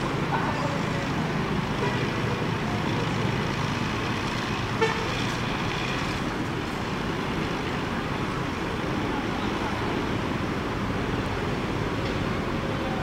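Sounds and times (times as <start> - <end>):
diesel bus engine rumbling: 0.0 - 13.0
traffic moving: 0.0 - 13.0.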